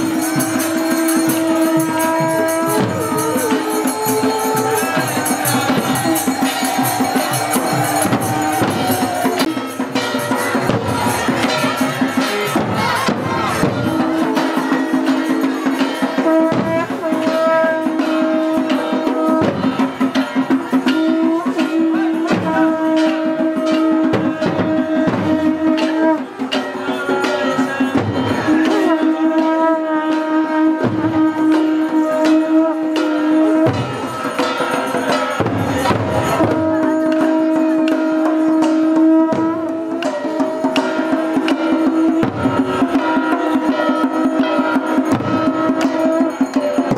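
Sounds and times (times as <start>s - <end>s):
barrel drums beaten with sticks: 0.0s - 46.9s.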